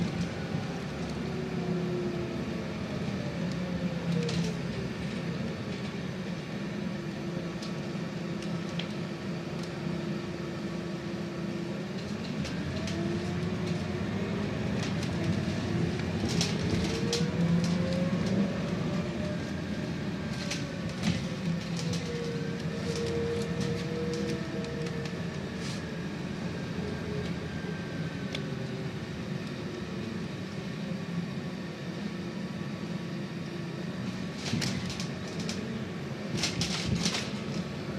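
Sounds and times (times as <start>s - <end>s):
bus drivetrain whine: 0.0s - 37.9s.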